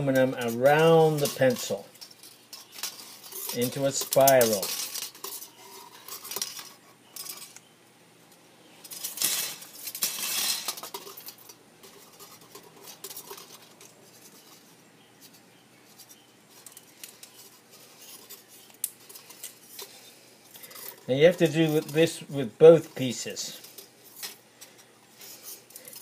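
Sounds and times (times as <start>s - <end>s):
aluminium strip crinkling: 0.0s - 7.7s, 8.8s - 26.0s.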